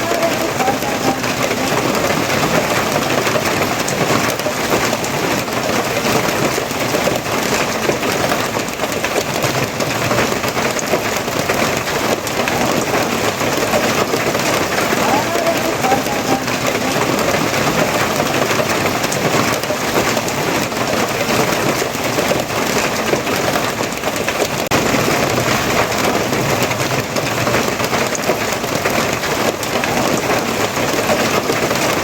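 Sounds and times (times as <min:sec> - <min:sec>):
rain falling on a surface: 0:00.0 - 0:32.0.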